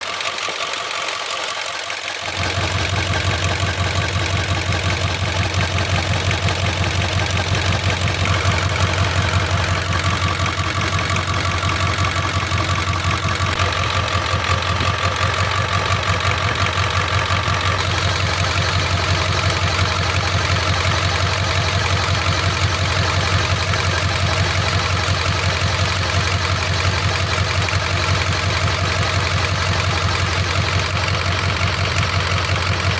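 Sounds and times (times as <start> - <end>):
diesel engine idling: 2.0 - 32.9.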